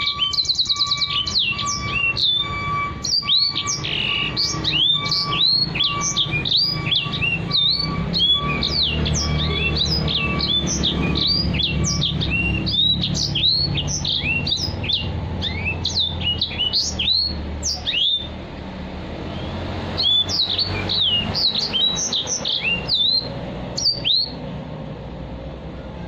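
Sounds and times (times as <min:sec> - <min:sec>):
bird singing whistled notes: 0:00.0 - 0:18.4, 0:19.3 - 0:24.4.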